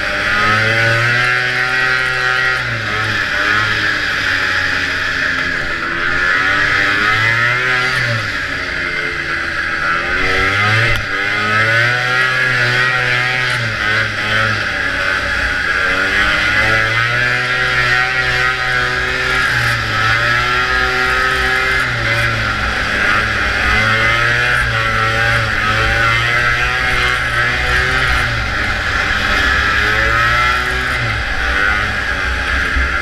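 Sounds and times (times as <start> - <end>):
two-stroke snowmobile engine revving: 0.0 - 33.0.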